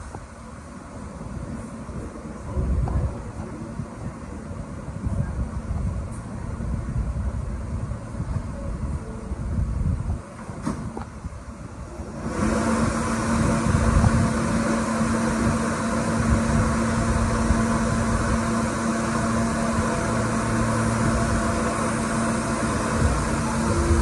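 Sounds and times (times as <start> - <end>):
subway train rumble and hiss: 0.0 - 24.0.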